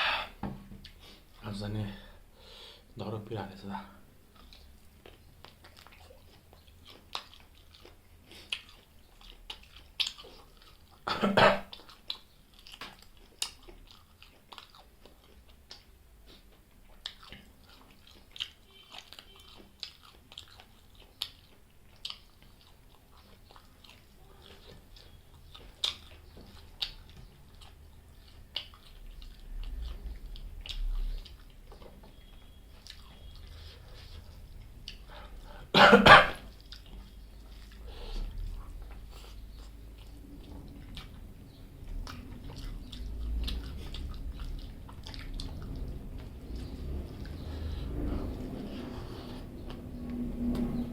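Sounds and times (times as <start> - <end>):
person chewing food: 0.0 - 1.4, 4.0 - 50.9.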